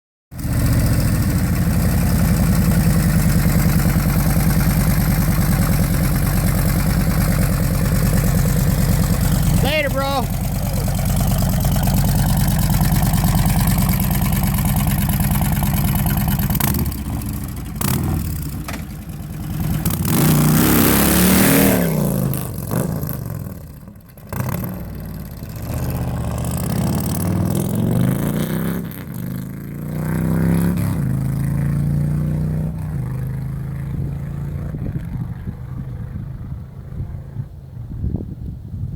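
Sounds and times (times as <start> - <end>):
motorcycle engine revving: 0.3 - 38.1.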